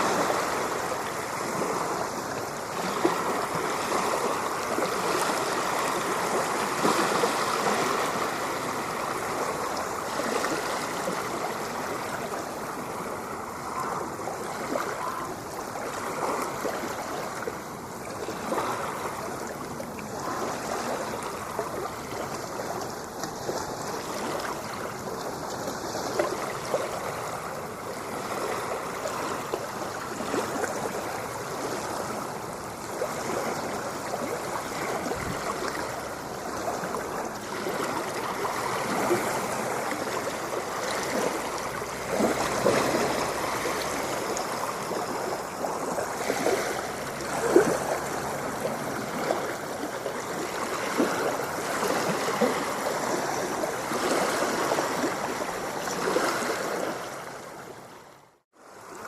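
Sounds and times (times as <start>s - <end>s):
ocean waves washing on shore: 0.0s - 59.0s.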